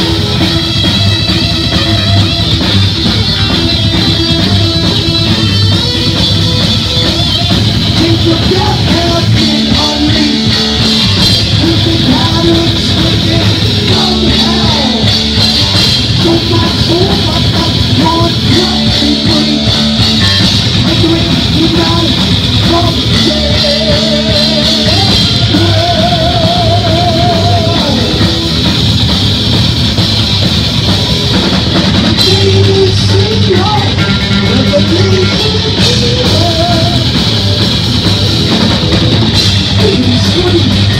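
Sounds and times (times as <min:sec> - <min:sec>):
heavy metal band playing live: 0:00.0 - 0:40.9
lead guitar with fast trills: 0:00.0 - 0:40.9.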